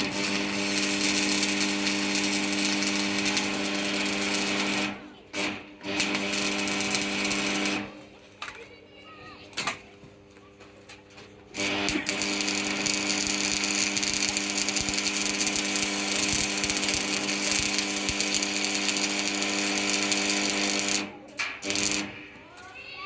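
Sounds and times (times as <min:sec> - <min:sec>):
power tool motor running: 0:00.0 - 0:08.0, 0:11.6 - 0:22.2.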